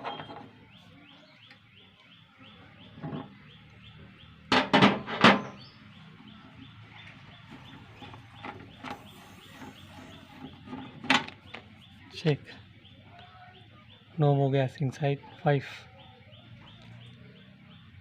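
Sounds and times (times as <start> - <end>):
faint bird chirping: 0.1 - 4.5, 5.4 - 18.0.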